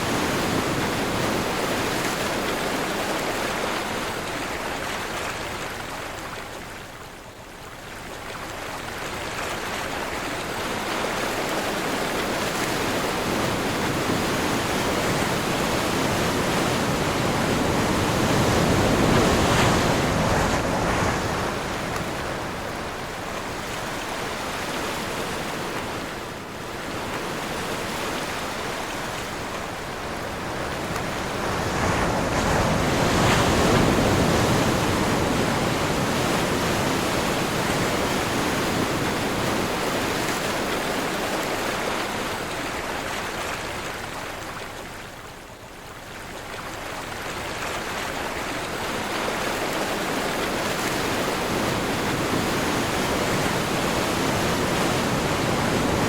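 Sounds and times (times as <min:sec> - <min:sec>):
ocean waves washing: 0:00.0 - 0:56.0
wind: 0:00.0 - 0:56.0.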